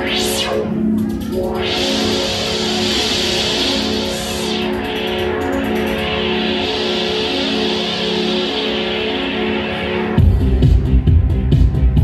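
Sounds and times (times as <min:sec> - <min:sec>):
droning electronic music: 0:00.0 - 0:12.0.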